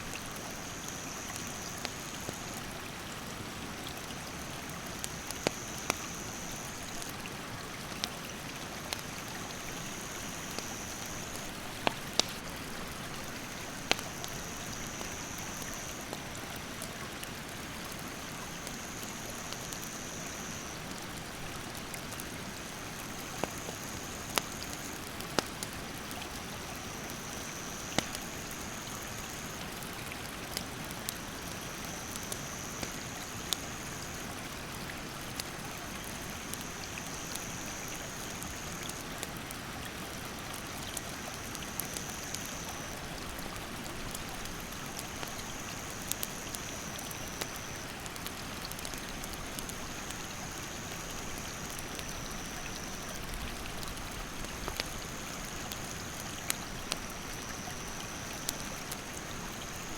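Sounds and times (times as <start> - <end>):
campfire popping: 4.0 - 39.5, 40.1 - 59.9.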